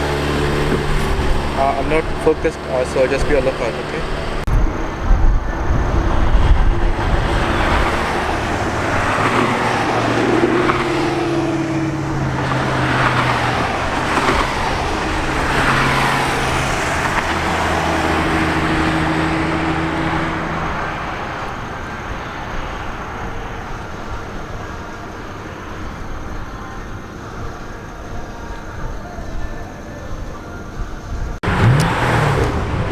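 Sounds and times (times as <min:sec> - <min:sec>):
car engines: 0:00.0 - 0:32.9
road traffic passing: 0:00.0 - 0:32.9.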